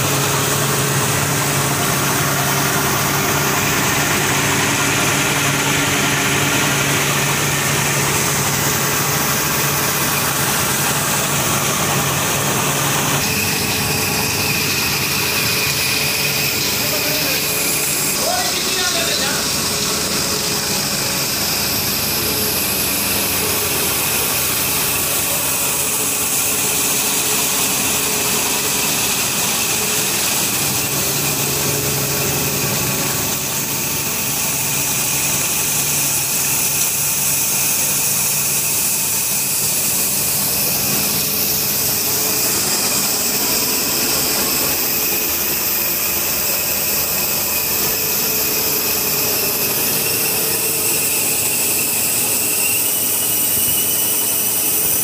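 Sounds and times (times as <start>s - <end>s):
ginning machine whining: 0.0s - 55.0s.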